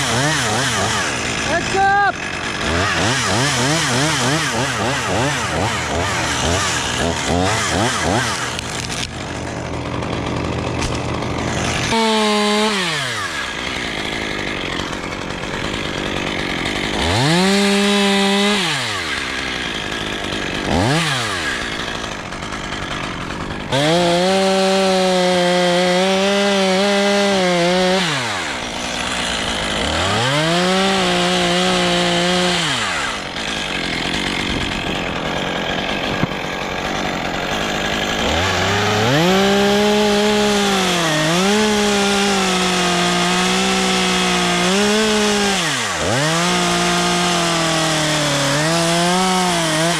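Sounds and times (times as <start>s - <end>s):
chainsaw revving cutting wood: 0.0s - 49.9s.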